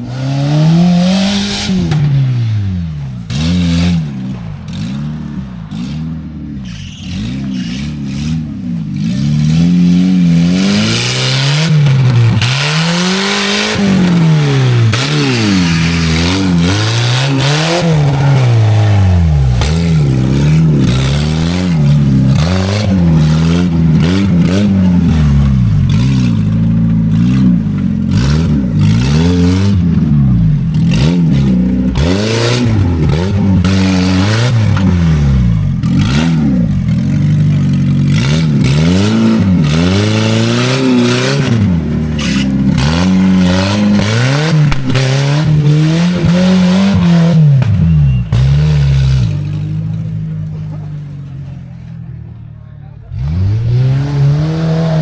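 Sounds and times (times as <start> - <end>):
engine revving: 0.0 - 55.0
rough noisy sound: 0.0 - 55.0.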